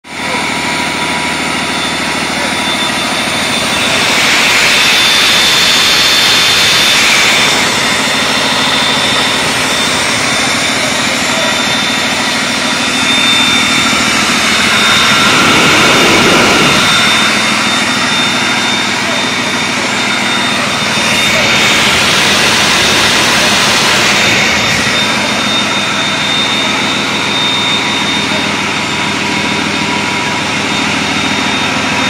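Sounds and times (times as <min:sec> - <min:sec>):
high engine whine: 0:00.0 - 0:32.0
diesel engine air rush: 0:00.1 - 0:32.0.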